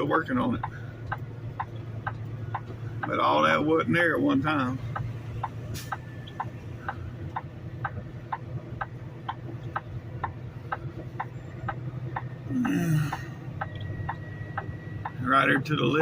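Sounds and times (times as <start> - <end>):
truck engine low hum: 0.0 - 16.0
turn signal ticking: 0.0 - 16.0.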